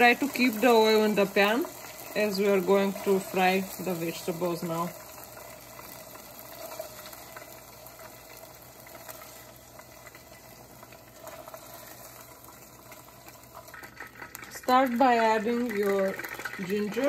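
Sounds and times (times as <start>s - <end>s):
hot oil sizzling in a pan: 0.0s - 17.0s.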